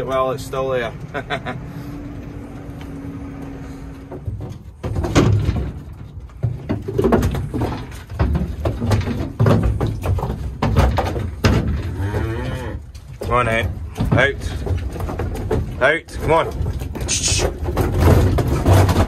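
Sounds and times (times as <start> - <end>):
cattle knocking inside trailer: 2.3 - 19.0.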